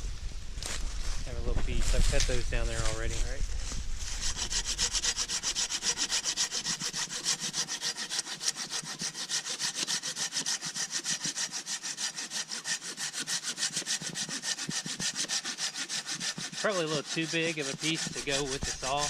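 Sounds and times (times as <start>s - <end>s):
pruning saw cutting wood: 1.8s - 19.0s.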